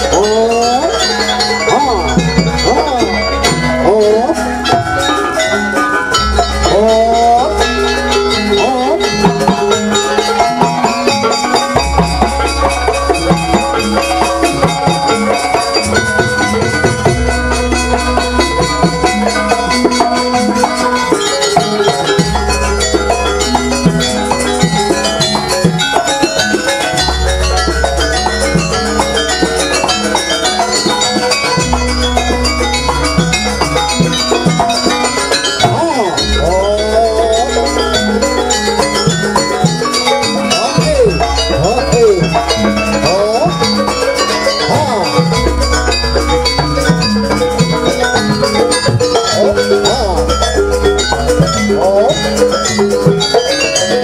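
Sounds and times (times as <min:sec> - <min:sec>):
drums: 0:00.0 - 0:54.0
gamelan dance music: 0:00.0 - 0:54.0
wavering melody line: 0:00.0 - 0:54.0.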